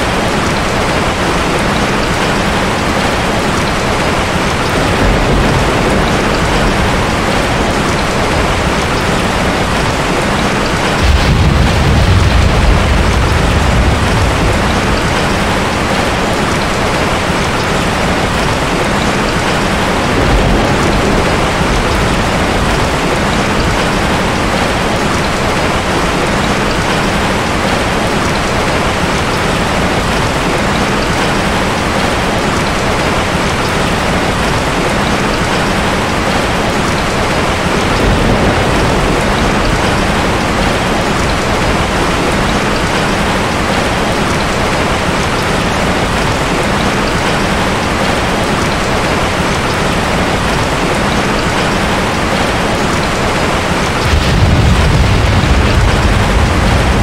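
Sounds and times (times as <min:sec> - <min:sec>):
steady heavy rainfall: 0:00.0 - 0:57.0.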